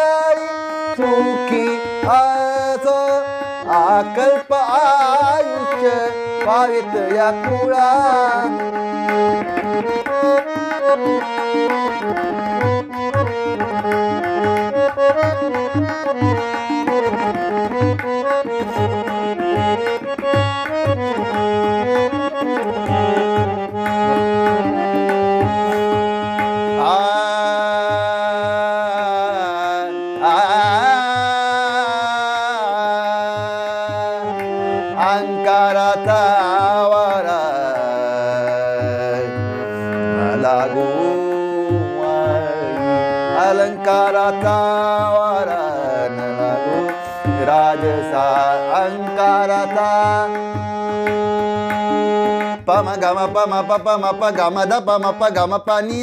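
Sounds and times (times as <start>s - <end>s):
harmonium melody over drone: 0.0s - 56.0s
person singing: 0.0s - 56.0s.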